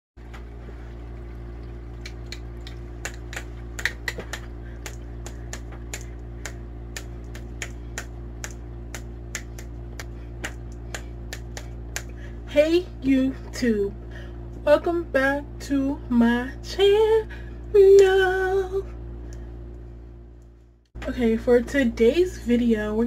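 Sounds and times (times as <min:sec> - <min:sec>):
steady low hum: 0:00.2 - 0:23.0.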